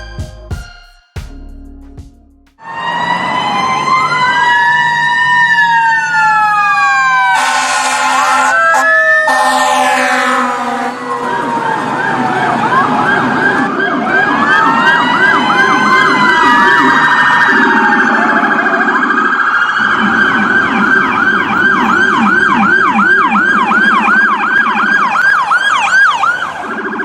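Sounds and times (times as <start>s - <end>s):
siren fast yelp: 2.6s - 27.0s
siren wailing: 2.6s - 27.0s.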